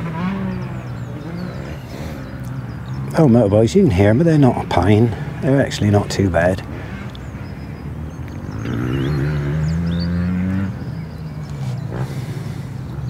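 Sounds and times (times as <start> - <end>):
motorbike engines accelerating: 0.0 - 13.0.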